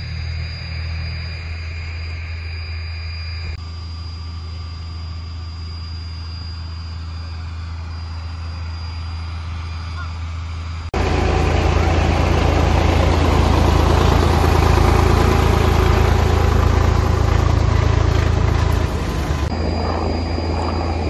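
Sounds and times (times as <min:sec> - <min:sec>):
high whine: 0:00.0 - 0:21.0
low engine drone: 0:00.0 - 0:21.0.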